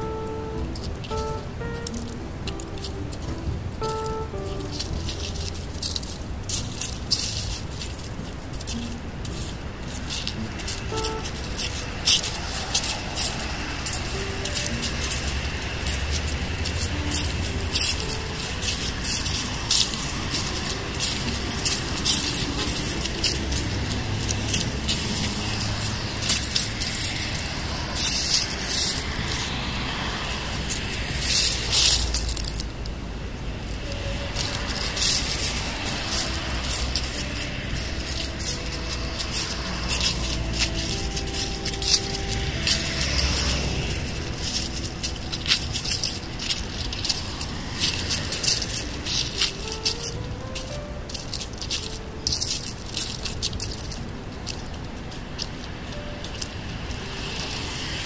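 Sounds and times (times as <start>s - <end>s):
distant traffic hum: 0.0s - 58.0s
footsteps crunching through dry leaves: 0.0s - 58.0s
tune playing: 0.0s - 58.0s.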